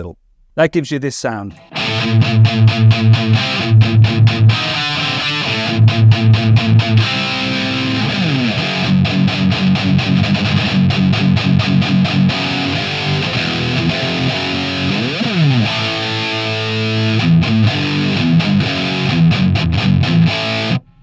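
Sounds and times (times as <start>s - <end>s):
distorted electric guitar riff: 1.5s - 21.0s.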